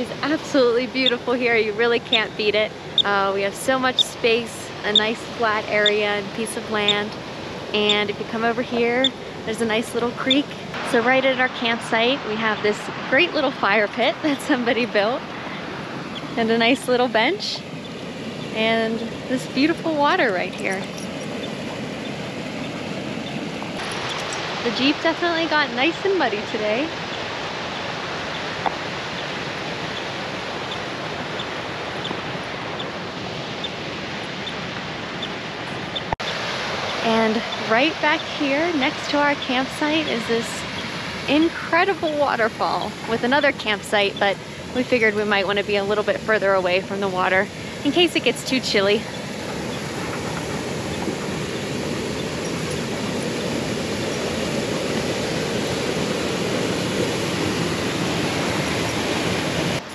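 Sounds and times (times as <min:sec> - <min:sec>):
creek rushing: 0:00.0 - 0:59.9.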